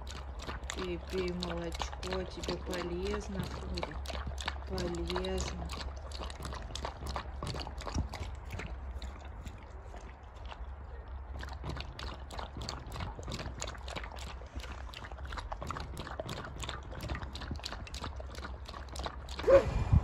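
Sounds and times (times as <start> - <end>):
animal lapping milk: 0.0 - 20.0.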